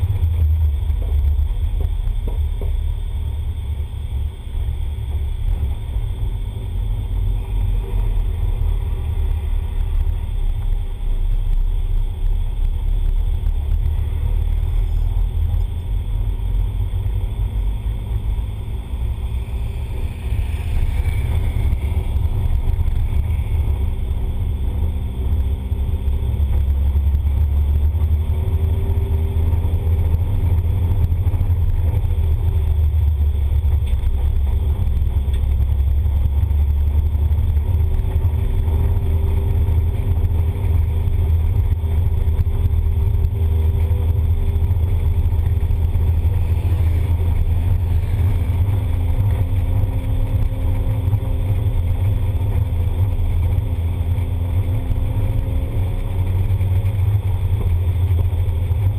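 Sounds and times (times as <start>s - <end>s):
car engine running steadily: 0.0s - 58.9s
heavy low rumble: 0.0s - 58.9s.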